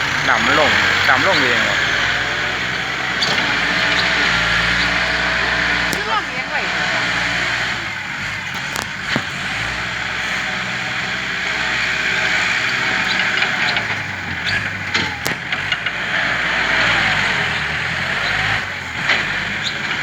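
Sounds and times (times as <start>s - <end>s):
heavy machine engine running: 0.0s - 20.0s.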